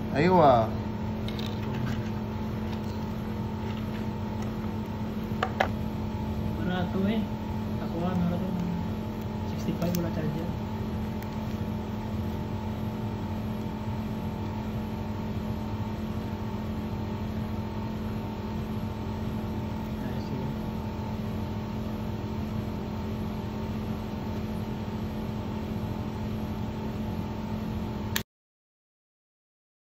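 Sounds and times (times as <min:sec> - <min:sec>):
steady mechanical hum: 0:00.0 - 0:28.2.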